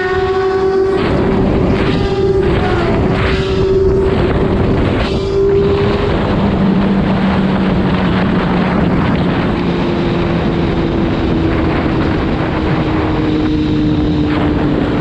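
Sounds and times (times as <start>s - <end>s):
motorcycle engine at high revs: 0.0s - 15.0s
wind rush: 0.0s - 15.0s.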